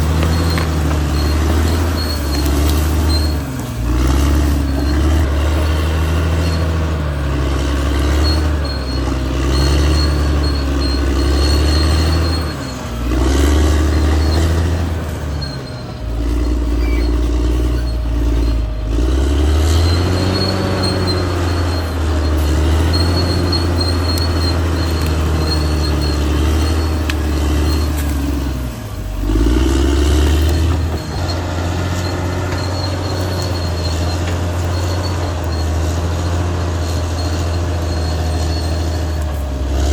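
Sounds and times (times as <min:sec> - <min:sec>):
bulldozer diesel engine under load: 0:00.0 - 0:39.9
high squeal from tracks: 0:00.0 - 0:39.9.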